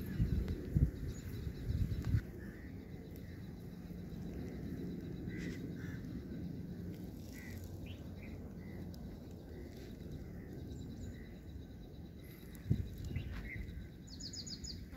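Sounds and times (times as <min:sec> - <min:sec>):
faint bird calls: 0:00.0 - 0:14.9.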